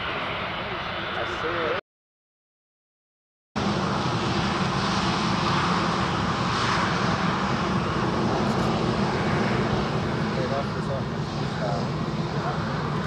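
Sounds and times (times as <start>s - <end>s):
jet engines roaring: 0.0s - 1.8s, 3.6s - 13.0s.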